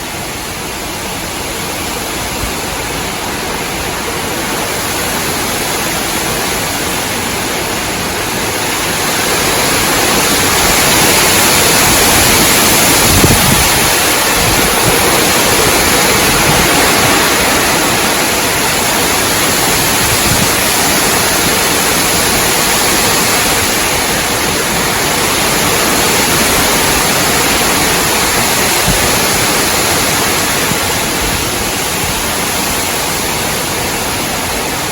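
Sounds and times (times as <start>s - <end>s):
gusty wind through trees: 0.0s - 34.9s.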